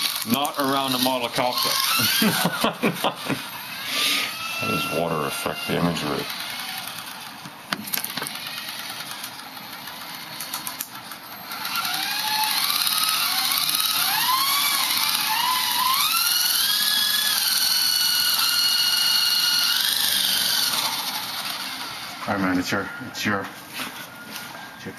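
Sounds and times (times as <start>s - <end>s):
electric motors whining: 0.0s - 24.9s.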